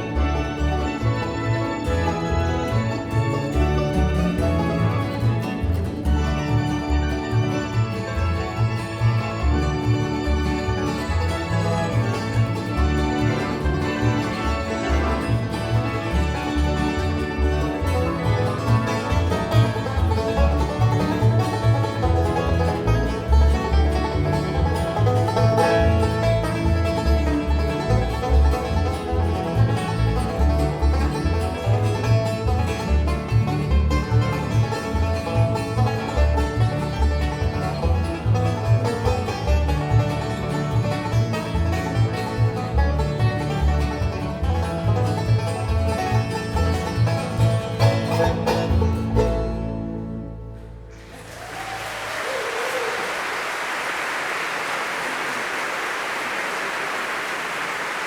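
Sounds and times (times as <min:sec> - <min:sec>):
guitar picking: 0:00.0 - 0:51.0
banjo picking: 0:00.0 - 0:51.2.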